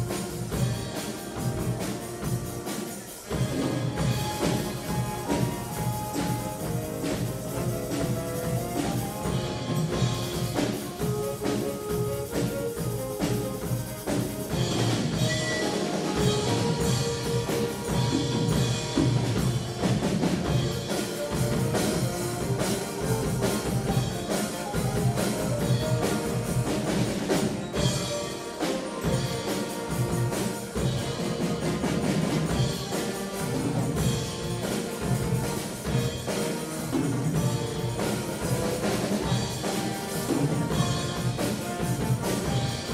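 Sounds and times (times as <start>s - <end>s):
drum kit beat: 0.0s - 42.9s
saxophones playing the tune: 0.0s - 42.9s
wind band playing: 0.0s - 42.9s.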